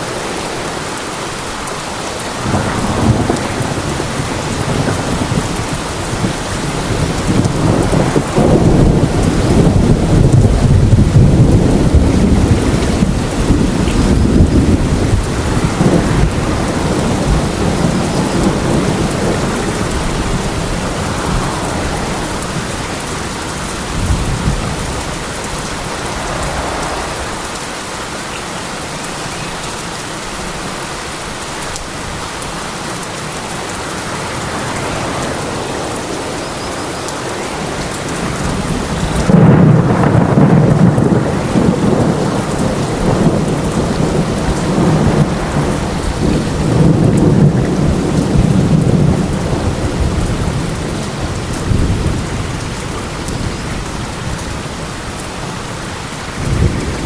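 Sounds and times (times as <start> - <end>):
steady rain: 0.0 - 57.0
thunder rumbling: 2.2 - 28.4, 33.8 - 55.2, 56.2 - 57.0.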